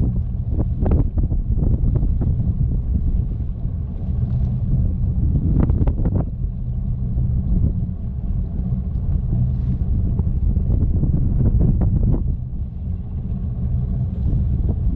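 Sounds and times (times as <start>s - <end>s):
boat engine rumbling: 0.0s - 14.9s
wind buffeting microphone: 0.0s - 14.9s.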